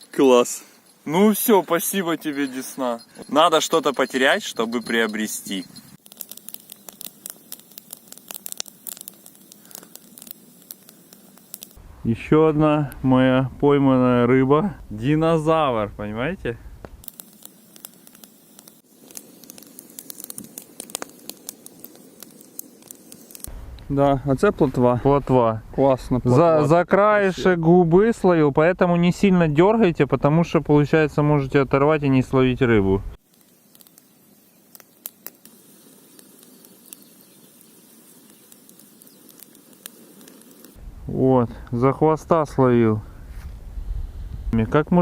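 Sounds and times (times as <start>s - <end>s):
faint outdoor hiss: 0.0s - 45.0s.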